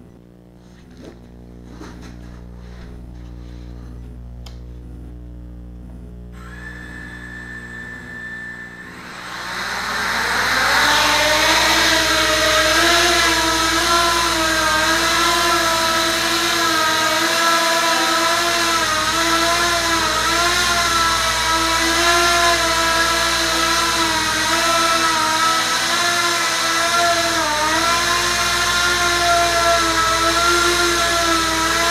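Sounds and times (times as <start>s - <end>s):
quadcopter motors buzzing whine: 6.3s - 31.9s.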